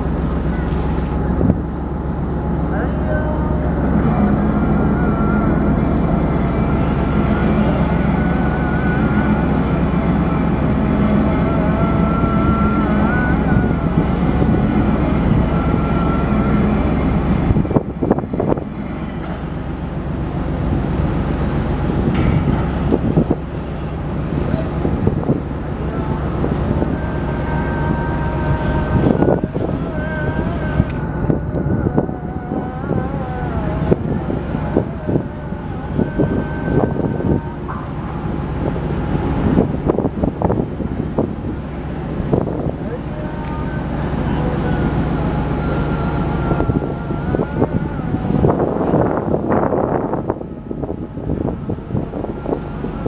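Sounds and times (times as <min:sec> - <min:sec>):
ferry engines rumbling: 0:00.0 - 0:53.0
machinery whine: 0:00.0 - 0:53.0
wind buffeting microphone: 0:00.0 - 0:53.0.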